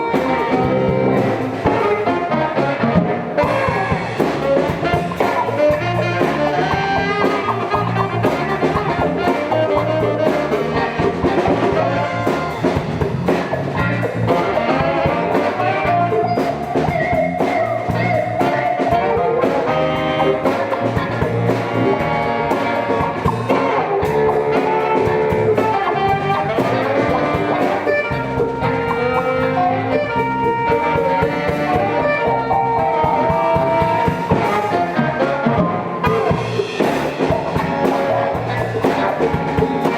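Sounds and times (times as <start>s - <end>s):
live jazz-funk band: 0.0s - 39.9s.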